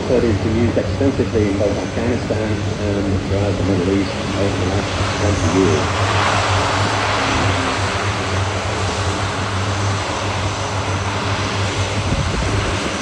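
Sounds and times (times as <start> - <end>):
propeller aircraft taxiing: 0.0 - 13.0.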